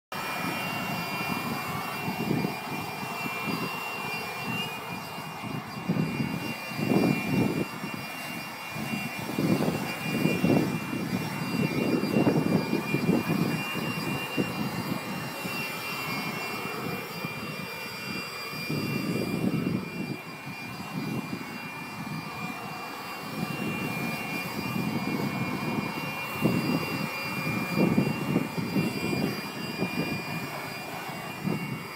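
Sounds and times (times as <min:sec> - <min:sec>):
leaf blower whining: 0:00.1 - 0:31.9.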